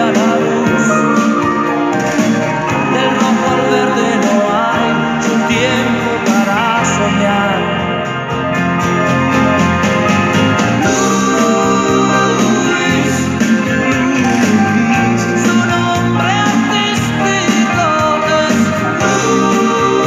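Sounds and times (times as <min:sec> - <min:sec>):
electronic keyboard melody: 0:00.0 - 0:20.0.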